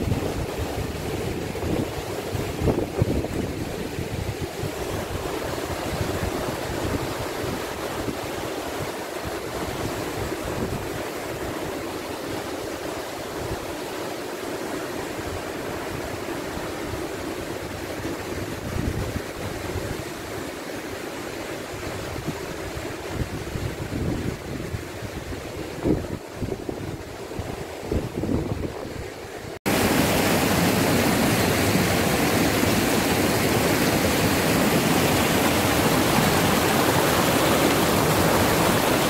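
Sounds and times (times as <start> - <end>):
wind rumbling on microphone: 0.0 - 11.8, 16.9 - 20.4, 21.8 - 39.0
river rushing over rocks: 0.0 - 39.0.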